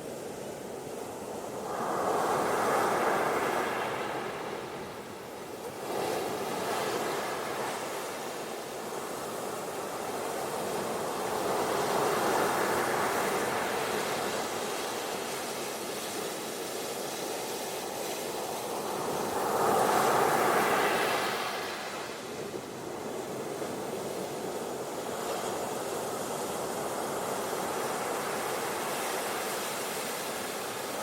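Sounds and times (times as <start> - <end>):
ocean waves breaking on beach: 1.1 - 31.0.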